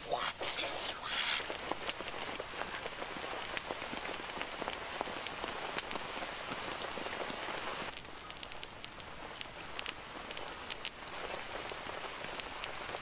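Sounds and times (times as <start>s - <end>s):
roasting meat sizzling and popping: 0.0s - 13.0s.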